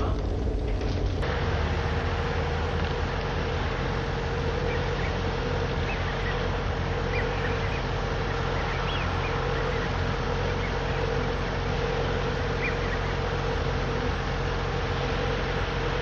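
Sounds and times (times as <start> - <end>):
boat engine drone: 0.0 - 16.0
faint bird calls: 1.6 - 16.0.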